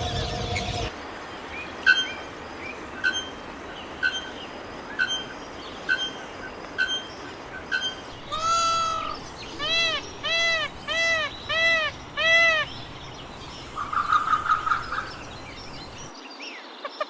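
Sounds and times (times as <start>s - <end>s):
forest ambience hiss: 0.0s - 17.0s.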